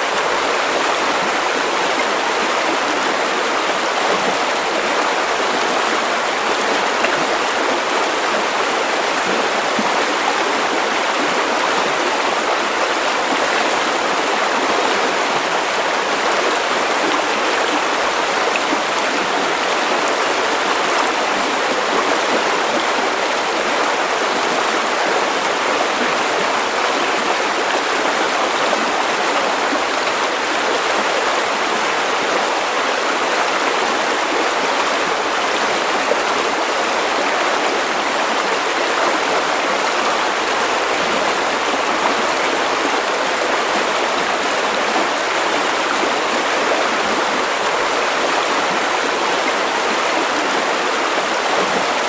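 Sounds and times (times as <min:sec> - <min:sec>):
river water over stones: 0:00.0 - 0:52.0.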